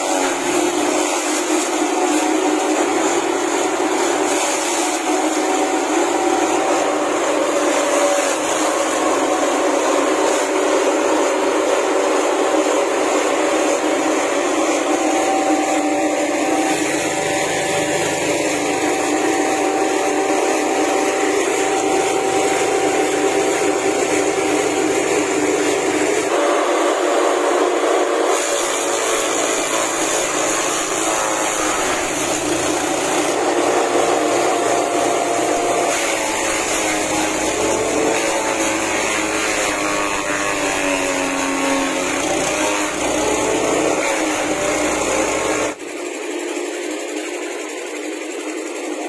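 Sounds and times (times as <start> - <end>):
petrol engine chopper running: 0.0 - 49.0.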